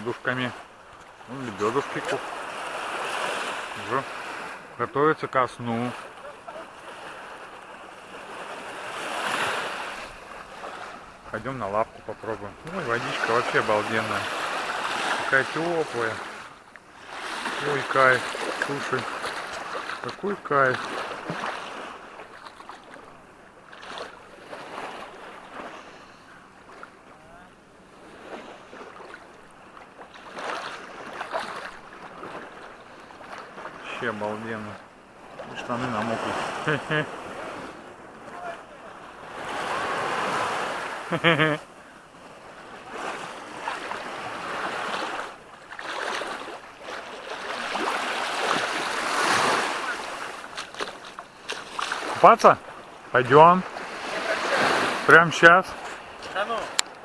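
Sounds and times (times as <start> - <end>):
small waves lapping: 0.0 - 57.0.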